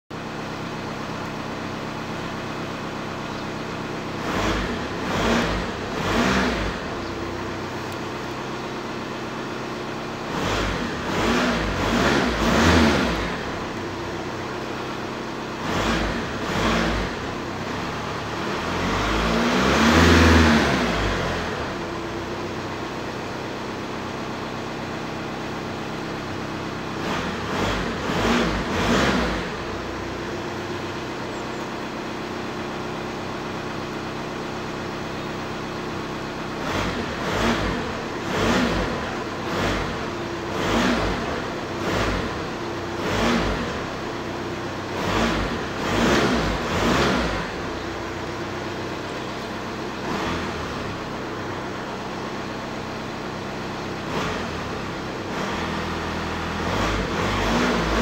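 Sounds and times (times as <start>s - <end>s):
car engine idling and revving: 0.1s - 58.0s.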